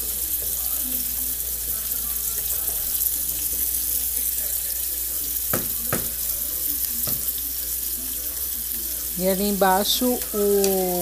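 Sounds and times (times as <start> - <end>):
pots boiling and frying hiss: 0.0 - 11.0.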